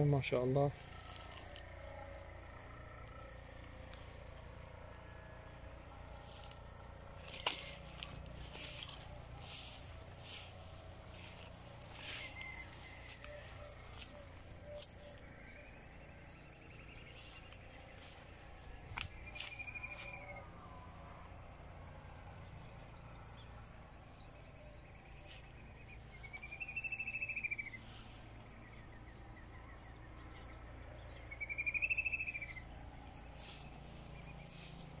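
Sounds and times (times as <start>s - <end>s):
insects chirring: 0.0s - 35.0s
louder insect calls: 0.0s - 35.0s.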